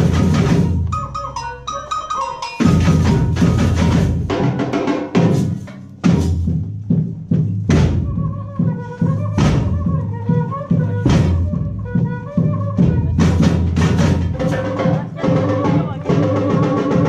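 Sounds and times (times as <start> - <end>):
percussion beat over bass: 0.0 - 17.0.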